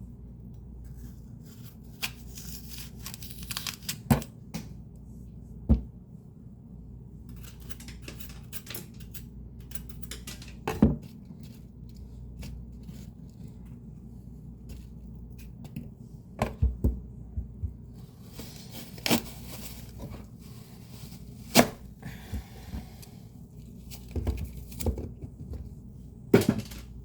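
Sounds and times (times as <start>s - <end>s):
fan humming: 2.9s - 27.0s.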